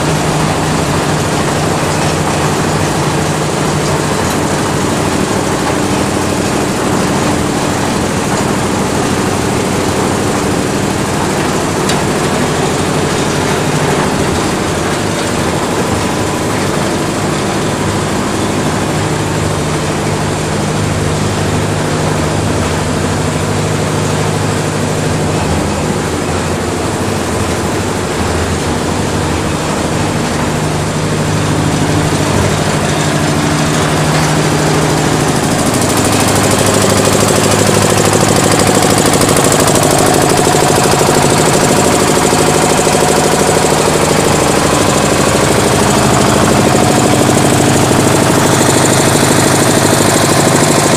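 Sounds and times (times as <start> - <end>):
concrete mixer running: 0.0 - 50.9.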